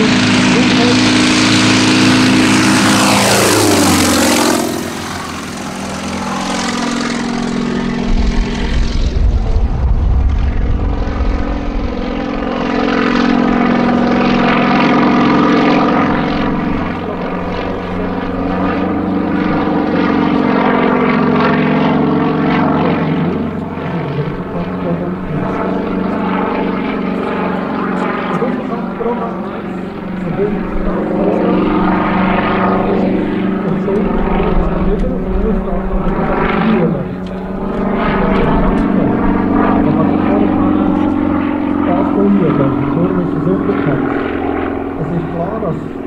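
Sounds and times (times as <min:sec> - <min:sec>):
propeller plane engine droning: 0:00.0 - 0:46.0.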